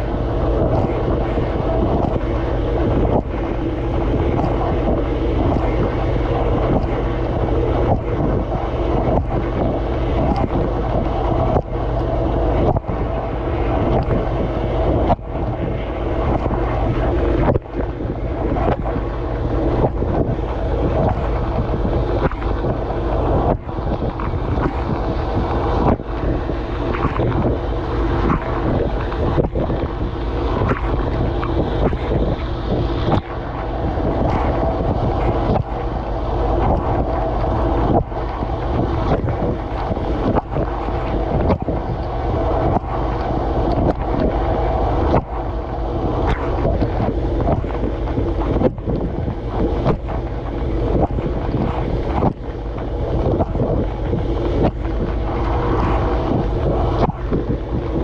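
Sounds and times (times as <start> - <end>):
low pump hum: 0.0 - 58.0.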